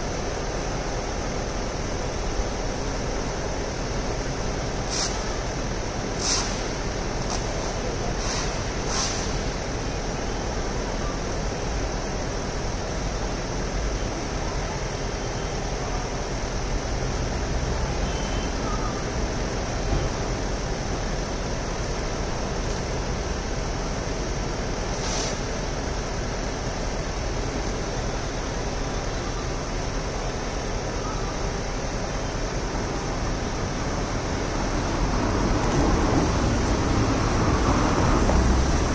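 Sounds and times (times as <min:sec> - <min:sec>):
street noise rumble: 0:00.0 - 0:38.9.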